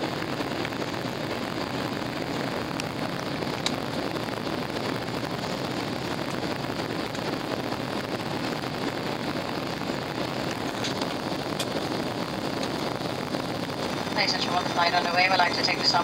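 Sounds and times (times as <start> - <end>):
jet engines in airliner cabin: 0.0 - 16.0.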